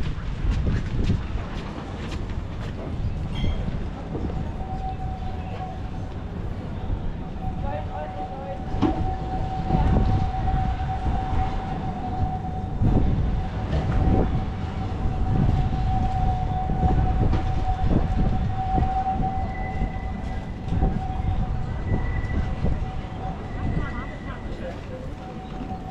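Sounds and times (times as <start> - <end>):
tram rumbling: 0.0 - 25.9
tram high whine: 1.8 - 25.9.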